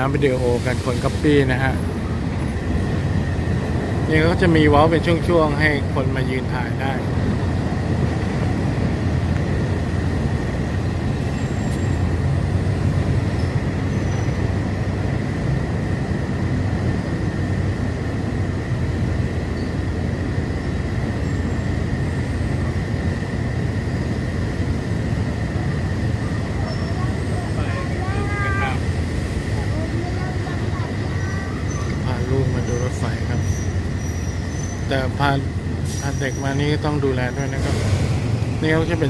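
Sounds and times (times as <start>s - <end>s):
train wheels rumbling: 0.0s - 39.0s.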